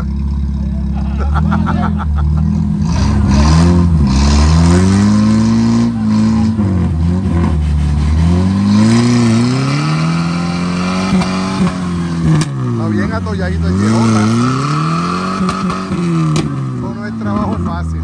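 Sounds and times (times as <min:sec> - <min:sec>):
engines revving hard: 0:00.8 - 0:18.0
tires spinning in mud: 0:00.9 - 0:18.0.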